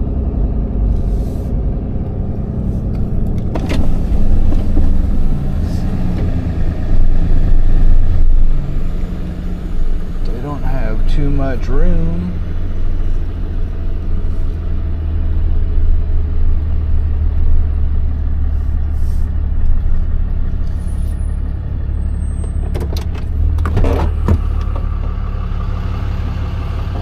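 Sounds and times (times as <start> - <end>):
truck engine running at low revs: 0.0 - 27.0.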